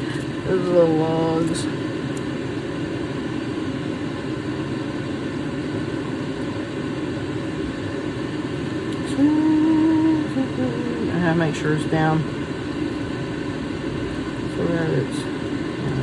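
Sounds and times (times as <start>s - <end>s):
machine drone: 0.0s - 16.0s.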